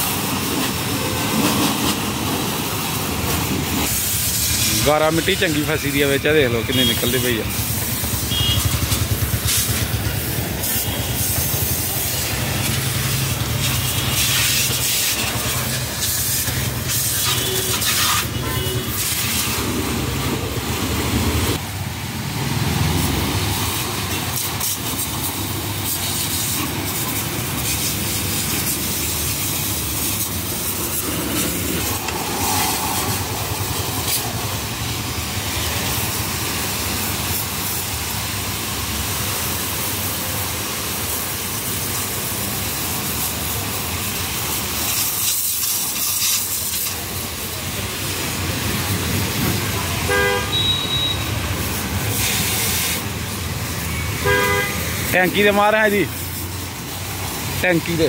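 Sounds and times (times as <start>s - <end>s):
pressure washer jet hissing: 0.0s - 58.0s.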